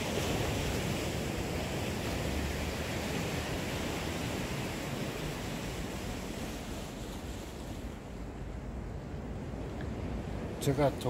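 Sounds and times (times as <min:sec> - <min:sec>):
sea surf washing ashore: 0:00.0 - 0:11.0.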